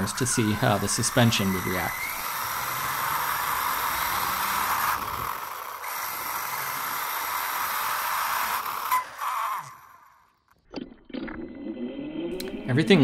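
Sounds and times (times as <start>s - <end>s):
thin motor whine: 0.0s - 10.5s.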